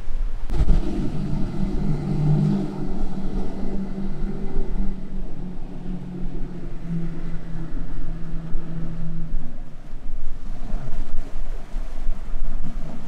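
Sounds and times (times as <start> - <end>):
outboard motors running at speed: 0.5 - 13.0.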